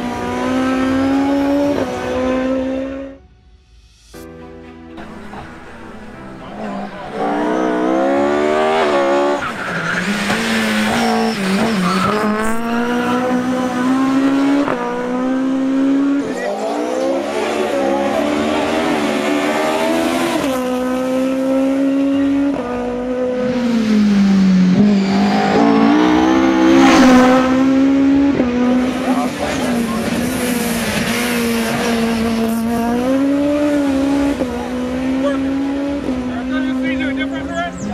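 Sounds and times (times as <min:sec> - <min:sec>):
rally car engine revving: 0:00.0 - 0:03.2, 0:05.0 - 0:37.9.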